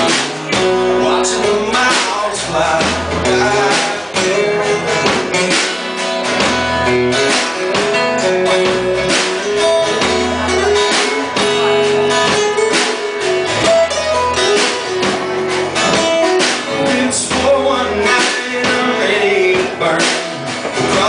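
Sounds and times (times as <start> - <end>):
country-rock guitar over beat: 0.0 - 21.0.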